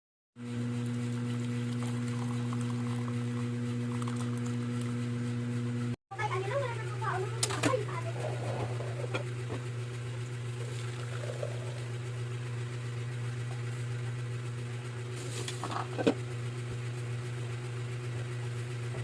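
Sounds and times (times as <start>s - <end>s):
appliance motor humming: 0.4s - 19.0s.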